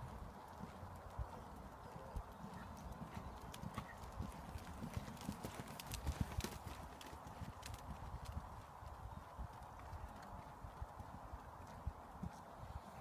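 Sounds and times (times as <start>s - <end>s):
horse hoofbeats on gritty ground: 0.0s - 12.5s.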